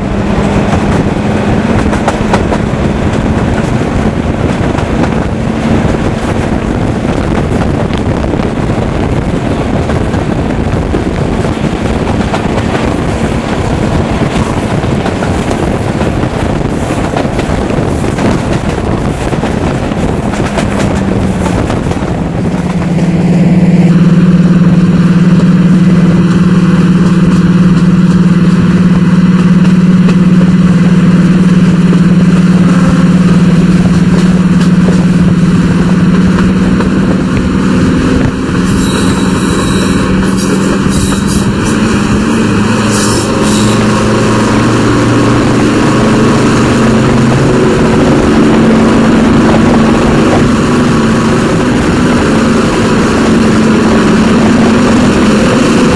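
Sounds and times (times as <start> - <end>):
diesel locomotive engine drone: 0.0 - 55.9
wind rush: 0.0 - 55.9.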